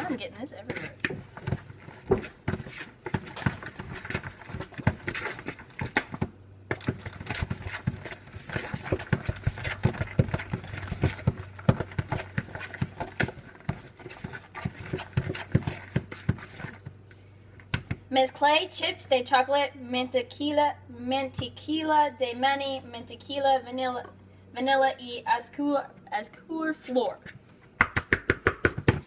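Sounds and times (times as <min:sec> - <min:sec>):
low steady hum: 0:00.0 - 0:27.8.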